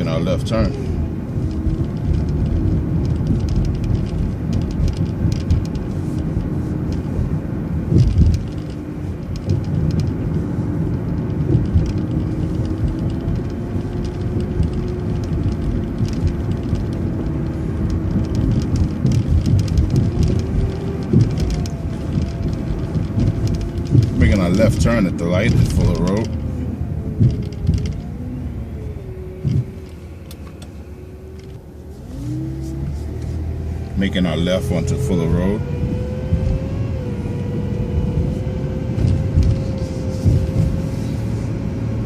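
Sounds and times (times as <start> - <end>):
bus engine and road rumble: 0.0 - 42.0
faint engine whine: 0.0 - 42.0.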